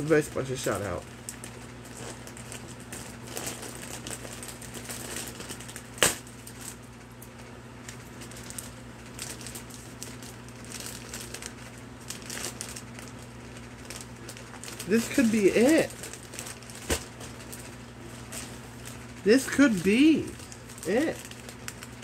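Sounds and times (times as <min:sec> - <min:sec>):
plastic bag crinkling: 0:00.0 - 0:22.0
plastic bag snapping: 0:01.3 - 0:06.8, 0:07.8 - 0:22.0.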